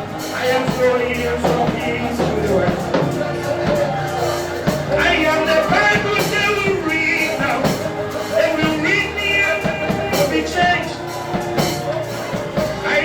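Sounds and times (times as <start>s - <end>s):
band playing gospel music: 0.0s - 13.0s
person singing: 0.0s - 13.0s.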